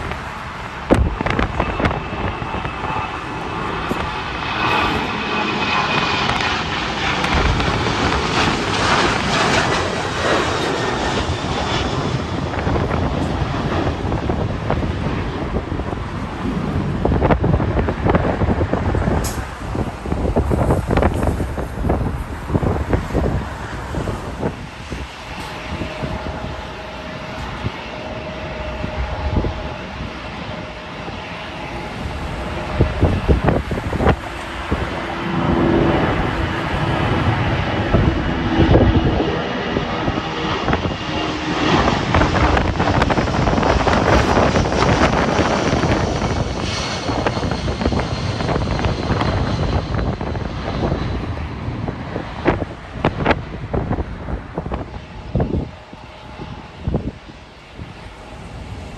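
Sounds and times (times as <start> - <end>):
jet engines rushing and whining: 0.0 - 58.9
wind buffeting microphone: 0.0 - 58.9.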